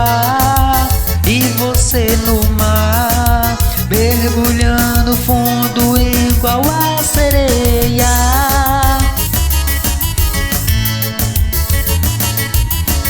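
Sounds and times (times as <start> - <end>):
forro song with bass and beat: 0.0 - 13.0.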